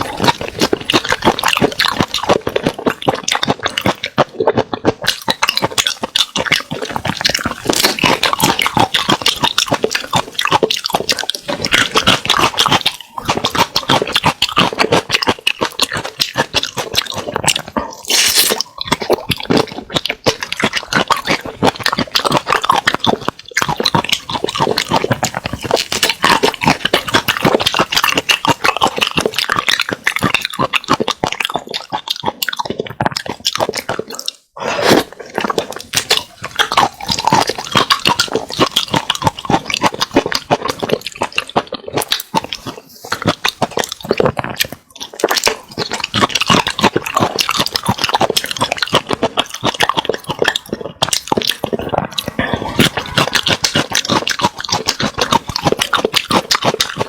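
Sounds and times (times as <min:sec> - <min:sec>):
person chewing and smacking: 0:00.0 - 0:57.0.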